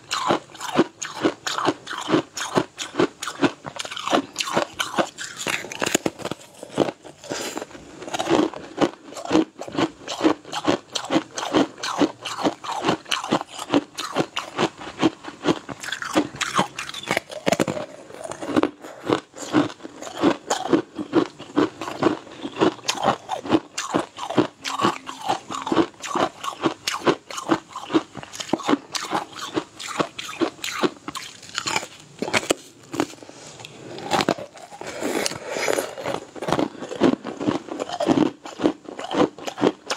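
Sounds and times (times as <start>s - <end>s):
crunching brittle crisps: 0.1s - 33.2s, 34.0s - 39.9s.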